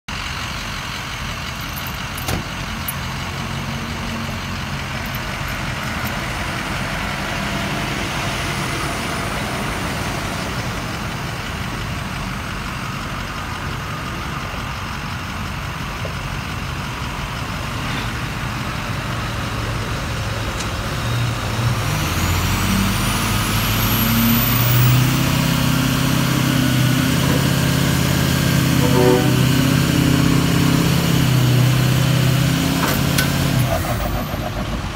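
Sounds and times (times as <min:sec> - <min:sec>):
truck engine straining: 0:00.1 - 0:34.9
traffic on wet road: 0:02.2 - 0:34.9.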